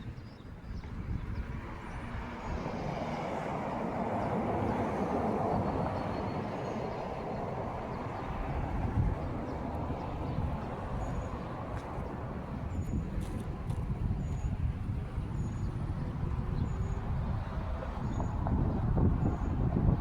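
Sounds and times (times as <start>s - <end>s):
low traffic rumble: 0.0s - 20.0s
street traffic rush: 0.5s - 20.0s.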